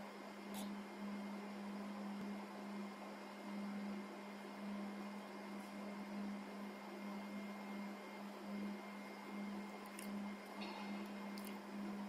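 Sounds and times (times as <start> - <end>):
machine low hum: 0.0 - 12.0.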